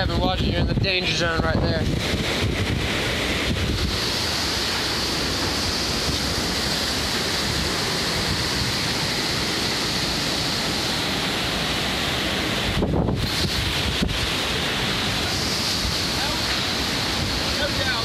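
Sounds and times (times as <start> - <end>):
driving rain: 0.0 - 18.0
hurricane wind: 0.0 - 18.0.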